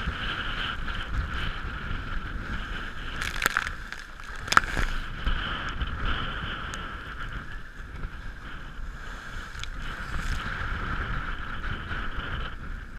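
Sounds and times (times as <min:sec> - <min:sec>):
rough sea rushing: 0:00.0 - 0:12.9
wind buffeting microphone: 0:00.0 - 0:12.9.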